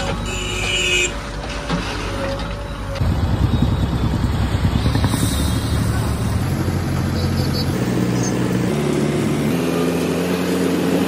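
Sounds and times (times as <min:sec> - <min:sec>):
backhoe diesel engine running: 0:00.0 - 0:11.0
truck diesel engine rumbling: 0:01.2 - 0:11.0.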